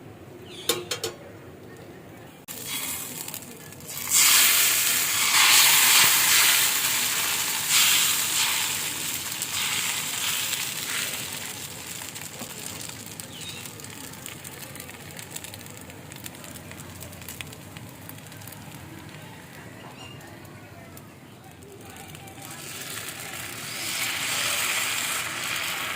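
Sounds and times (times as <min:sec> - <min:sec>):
batter sizzling on hot pan: 0:02.5 - 0:25.9.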